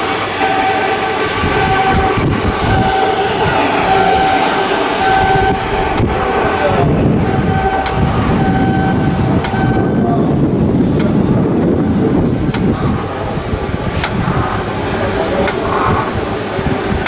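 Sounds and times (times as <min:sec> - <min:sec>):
low machinery rumble: 0:00.0 - 0:17.0.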